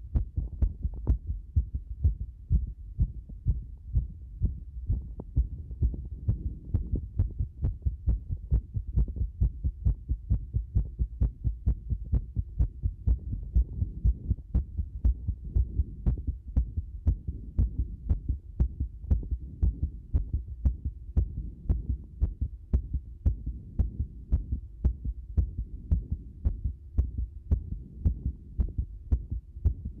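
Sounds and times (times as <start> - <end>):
irregular heartbeat thumps: 0.0 - 30.0.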